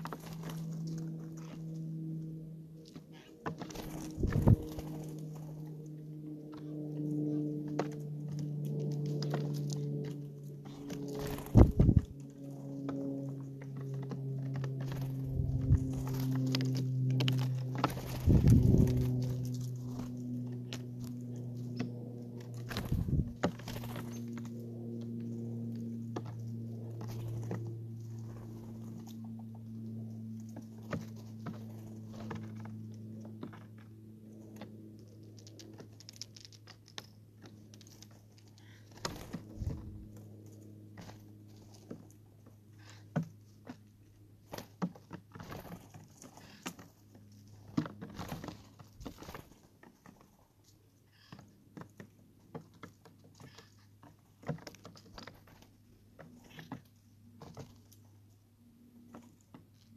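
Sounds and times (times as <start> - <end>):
birds pecking and tapping: 0.0 - 59.9
low steady hum: 0.0 - 59.9.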